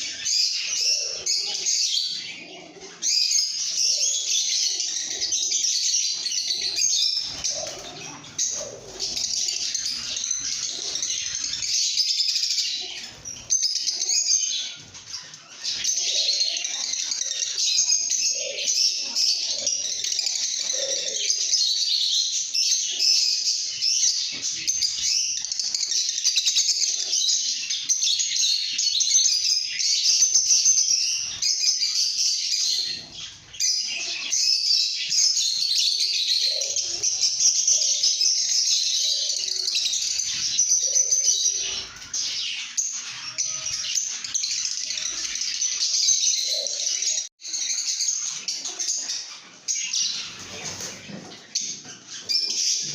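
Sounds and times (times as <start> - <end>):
flock of birds chattering: 0.0 - 52.9.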